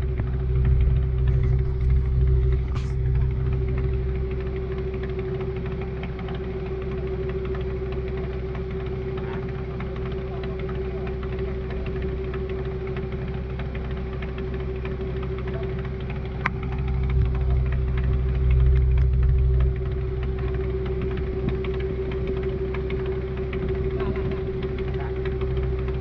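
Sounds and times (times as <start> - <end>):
boat engine rumbling: 0.0 - 26.0
faint rapid engine knock: 0.0 - 26.0.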